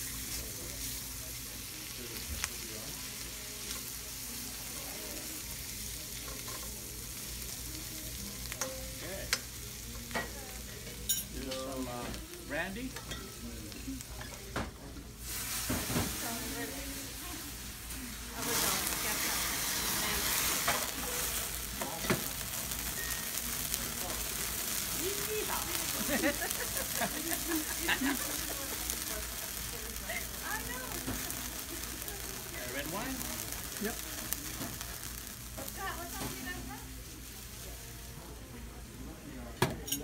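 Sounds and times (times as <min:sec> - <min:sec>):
steak sizzling in a frying pan: 0:00.0 - 0:39.4.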